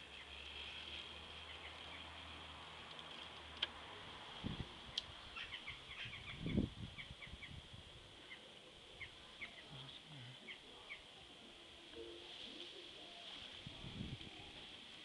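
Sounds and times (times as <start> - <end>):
small birds chirping: 0.0 - 3.6, 4.4 - 15.0
faint high hiss: 0.0 - 15.0.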